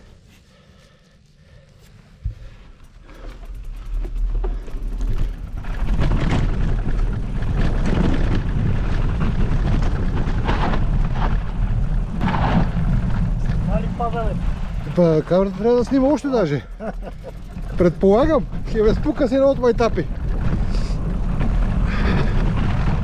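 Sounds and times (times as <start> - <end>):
bike rattling over gravel: 2.3 - 23.0
wind buffeting microphone: 3.4 - 23.0.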